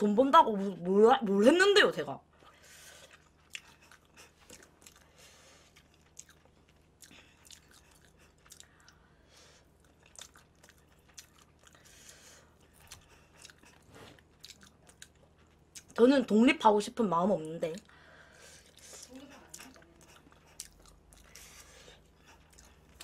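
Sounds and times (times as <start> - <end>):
faint close-miked chewing: 2.3 - 16.1, 17.4 - 23.0.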